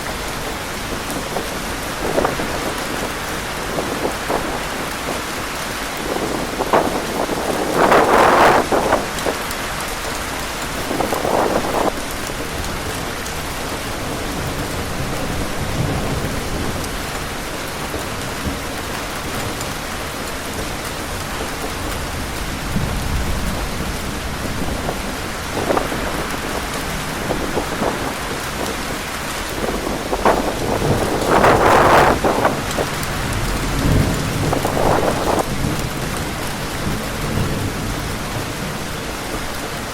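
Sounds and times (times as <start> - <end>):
heavy rain: 0.0 - 39.9
wind: 0.0 - 39.9.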